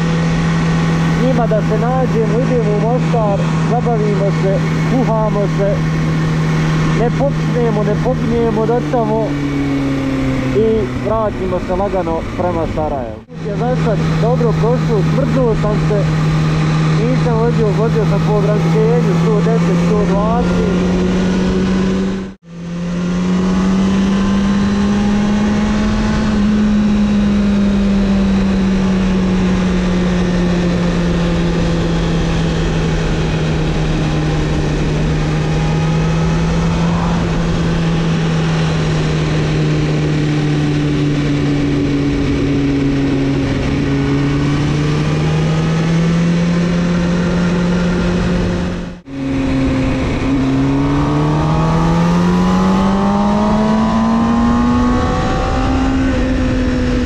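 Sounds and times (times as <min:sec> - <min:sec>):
motorcycle engine at high revs: 0:00.0 - 0:57.0
wind rush: 0:00.0 - 0:57.0.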